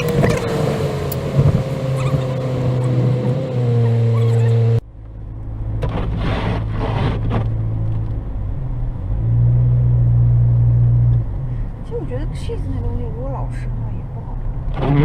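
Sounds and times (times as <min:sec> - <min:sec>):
car drone from inside cabin: 0:00.0 - 0:15.0.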